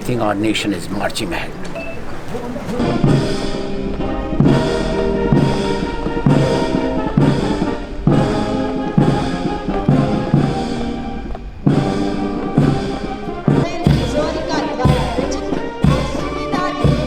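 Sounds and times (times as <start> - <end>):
brass band playing a march: 0.0 - 17.0
drum beat: 1.3 - 17.0.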